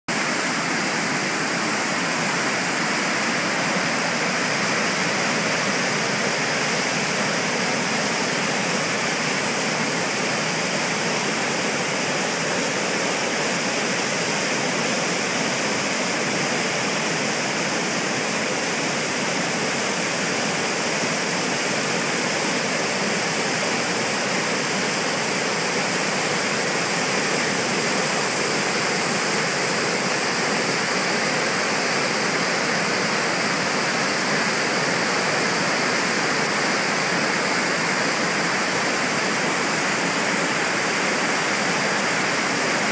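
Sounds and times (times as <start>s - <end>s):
whitewater rapids rushing: 0.1s - 42.9s.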